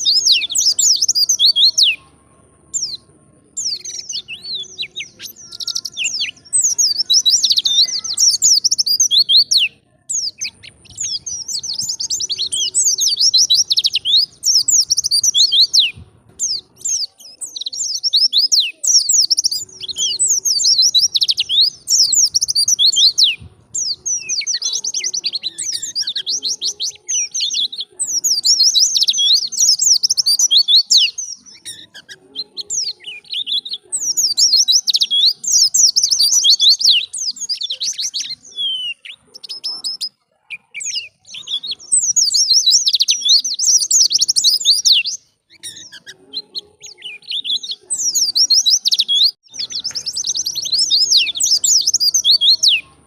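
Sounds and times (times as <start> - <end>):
bird twittering song: 0.0 - 53.0.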